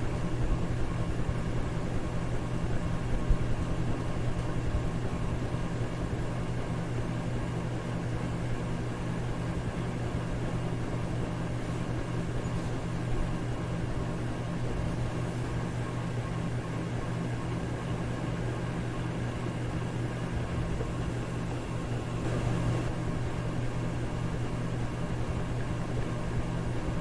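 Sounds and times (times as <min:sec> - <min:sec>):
electric fan running: 0:00.0 - 0:27.0.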